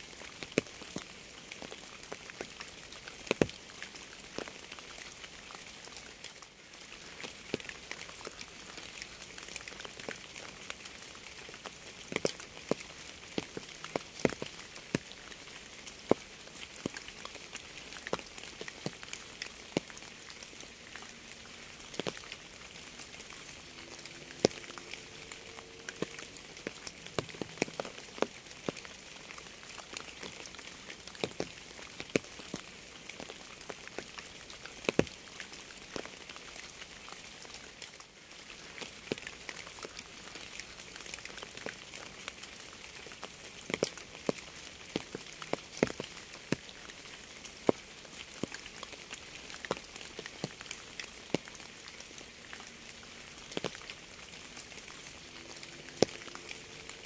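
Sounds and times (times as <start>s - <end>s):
steady rainfall hissing: 0.0s - 33.8s, 44.2s - 57.0s
raindrops ticking nearby: 0.0s - 57.0s.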